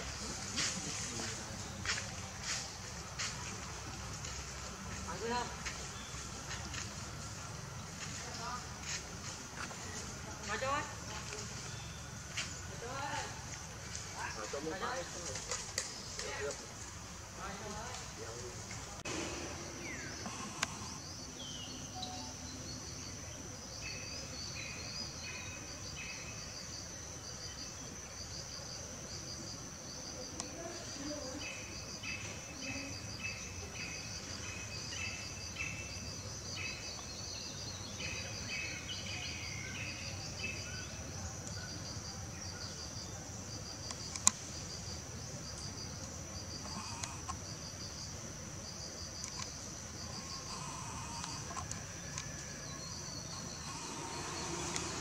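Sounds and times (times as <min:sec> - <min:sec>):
insects trilling: 0:00.0 - 0:55.0
low insect chirping: 0:00.0 - 0:55.0.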